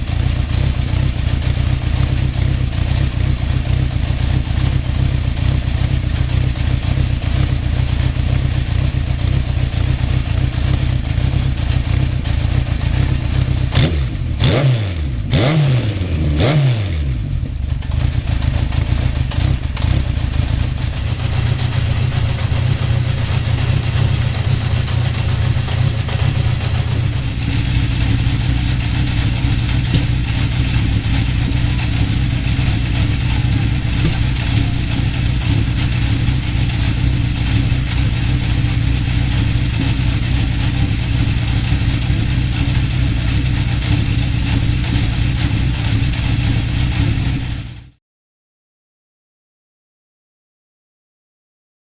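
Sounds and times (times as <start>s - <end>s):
motorcycle engine idling and revving: 0.0s - 48.0s.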